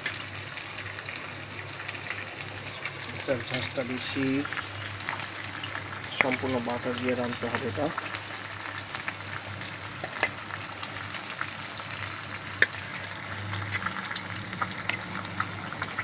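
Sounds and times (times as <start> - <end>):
steak sizzling in oil: 0.0 - 16.0.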